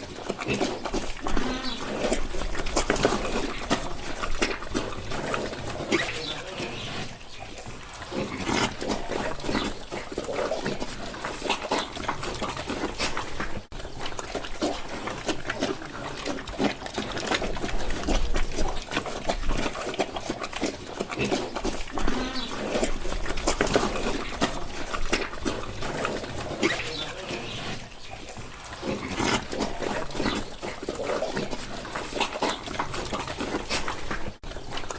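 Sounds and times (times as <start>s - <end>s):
pigs chewing and snuffling: 0.0s - 34.9s.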